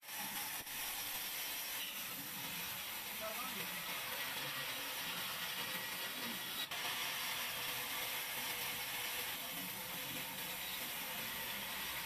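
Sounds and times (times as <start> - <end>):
band saw cutting wood: 0.0 - 12.0.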